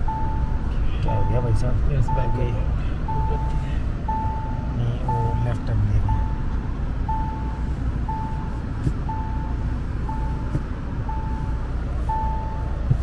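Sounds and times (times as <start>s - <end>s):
dashboard warning chime beeping: 0.0s - 13.0s
engine and tyres rumbling: 0.0s - 13.0s.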